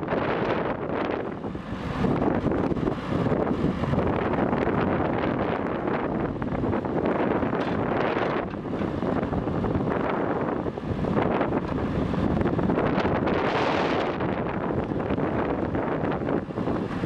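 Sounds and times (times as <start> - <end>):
diesel engine running: 0.0 - 17.0
wind buffeting microphone: 0.0 - 17.0.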